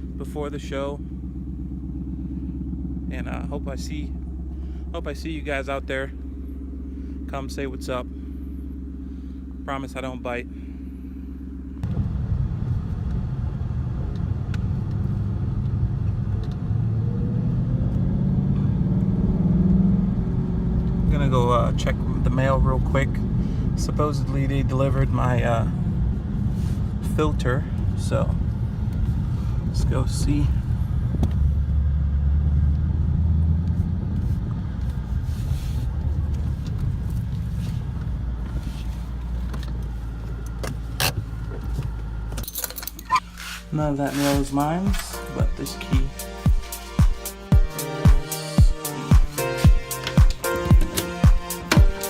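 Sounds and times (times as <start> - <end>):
car engine rumbling: 0.0 - 52.0.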